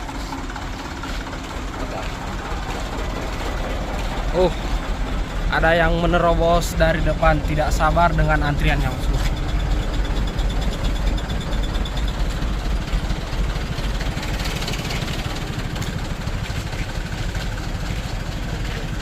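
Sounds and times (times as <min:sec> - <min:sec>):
traffic engines idling: 0:00.0 - 0:19.0.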